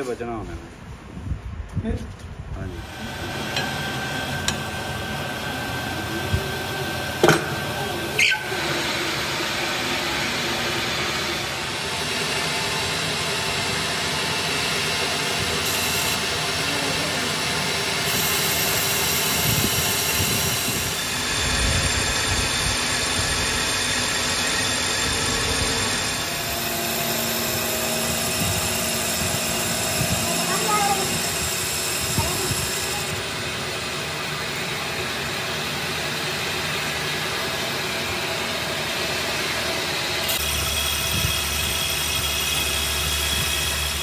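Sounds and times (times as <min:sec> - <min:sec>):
metal lathe machining: 0:02.7 - 0:44.0.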